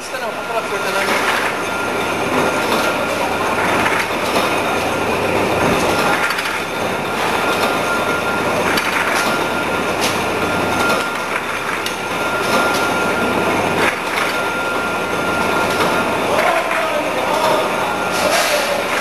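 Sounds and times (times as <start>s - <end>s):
clattering conveyor and bottles: 0.0s - 19.0s
machinery high whine: 0.0s - 19.0s.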